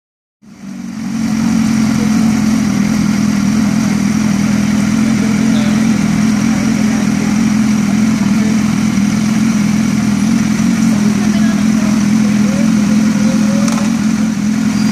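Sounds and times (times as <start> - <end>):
motorcycle engine idling: 0.5 - 14.9.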